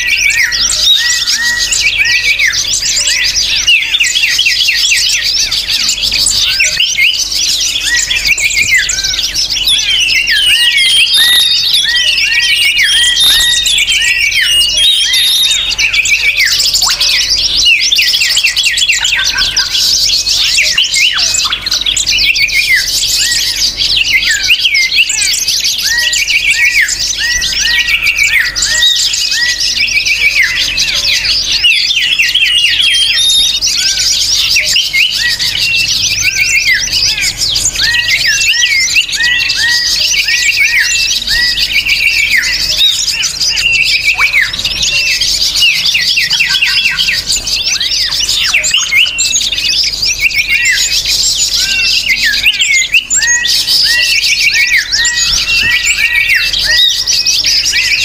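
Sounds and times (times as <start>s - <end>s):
songbirds chirping chorus: 0.0s - 58.0s.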